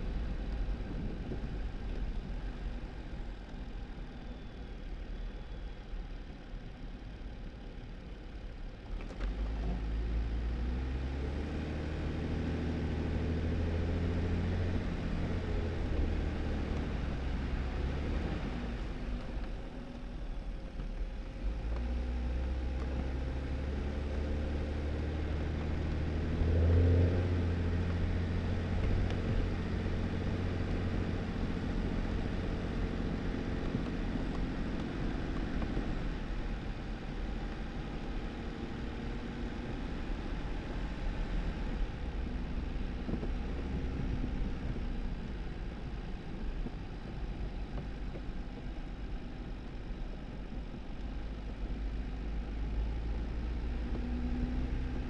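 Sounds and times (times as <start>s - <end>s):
car engine running: 0.0s - 55.0s
tyre and road noise: 10.6s - 55.0s.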